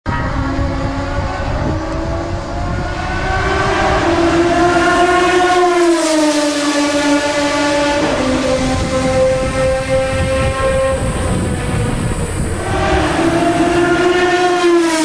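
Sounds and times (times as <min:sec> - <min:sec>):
race car engine at high revs: 0:00.1 - 0:15.0.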